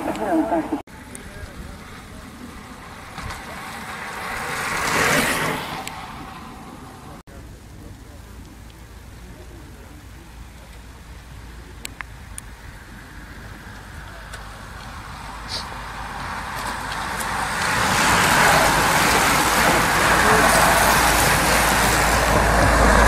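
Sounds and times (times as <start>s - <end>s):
bicycle tyres hissing on road: 0.9s - 23.0s.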